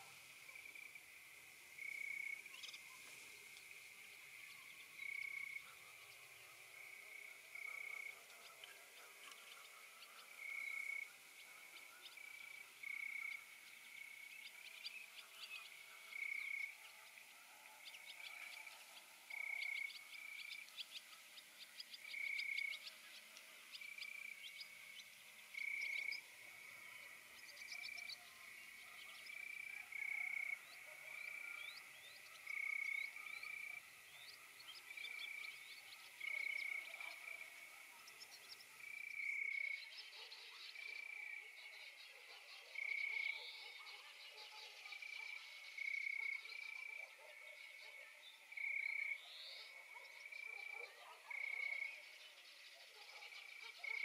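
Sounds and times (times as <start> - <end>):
frogs calling: 0.0 - 54.0.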